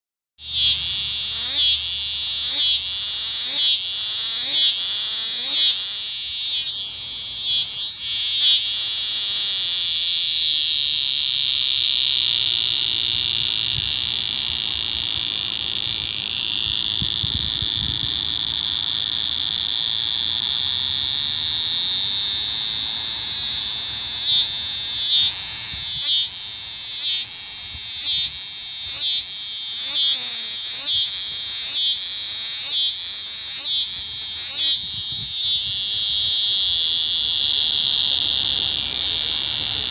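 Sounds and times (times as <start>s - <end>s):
cicada buzzing: 0.4s - 39.9s.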